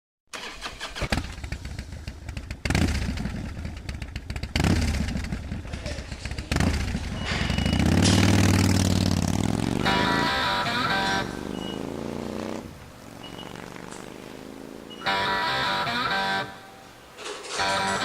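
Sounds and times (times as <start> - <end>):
motorcycle engine revving: 0.3 - 18.0.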